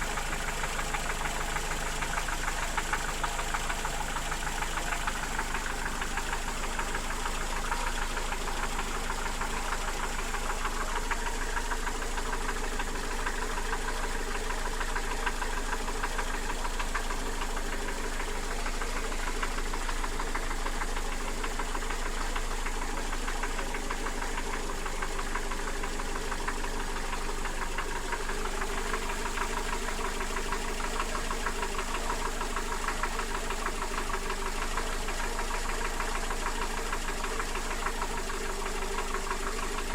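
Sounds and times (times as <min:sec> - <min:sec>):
car engine knocking: 0:00.0 - 0:39.9.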